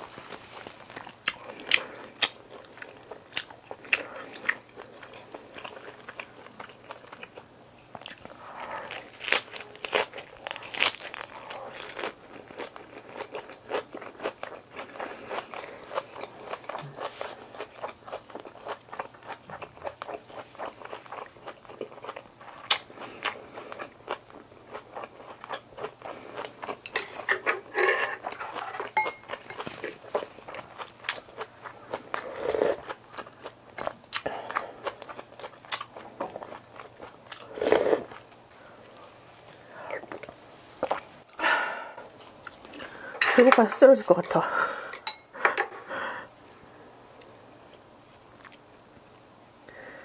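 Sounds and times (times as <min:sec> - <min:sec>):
person crunching and chewing food: 0:00.0 - 0:41.4, 0:42.0 - 0:44.4, 0:47.2 - 0:50.0.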